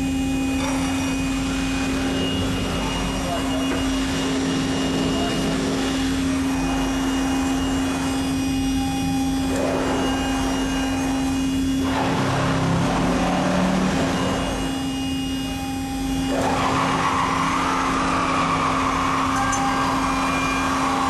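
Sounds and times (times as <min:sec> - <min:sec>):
router bit cutting wood: 0:00.0 - 0:21.0
router spindle humming: 0:00.0 - 0:21.0.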